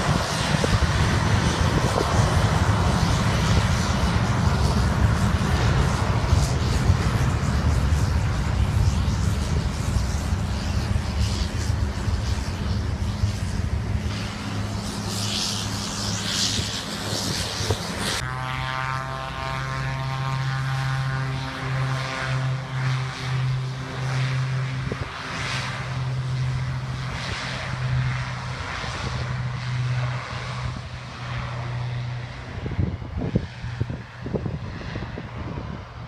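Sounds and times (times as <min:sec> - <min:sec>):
propeller drone with whine: 0:00.0 - 0:36.0.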